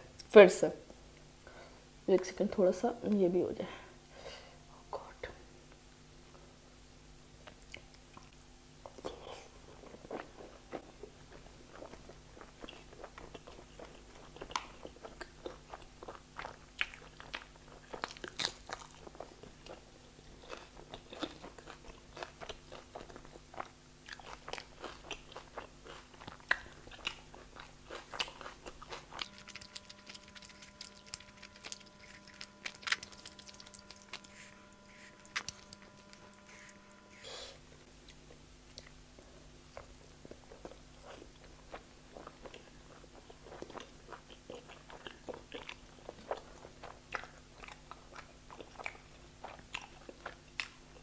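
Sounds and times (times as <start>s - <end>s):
person chewing food: 7.4s - 51.0s.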